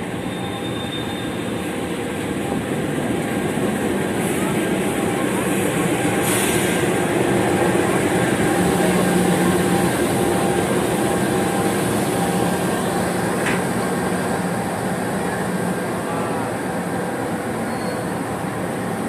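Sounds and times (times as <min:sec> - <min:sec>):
diesel locomotive engine humming: 0:00.0 - 0:19.0.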